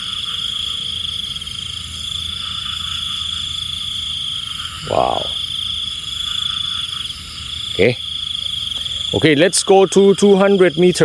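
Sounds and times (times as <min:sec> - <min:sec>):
frogs calling: 0:00.0 - 0:11.0
insects chirping: 0:00.0 - 0:11.0.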